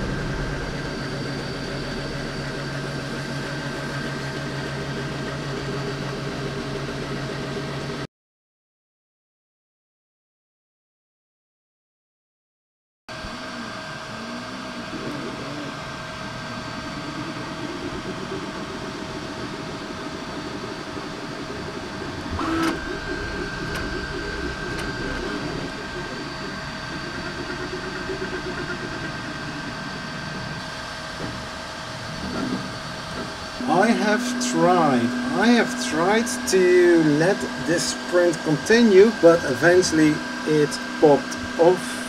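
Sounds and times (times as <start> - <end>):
fan hum with high tones: 0.0 - 8.0, 13.1 - 42.0
stepper motor whine: 0.0 - 8.0, 13.1 - 42.0.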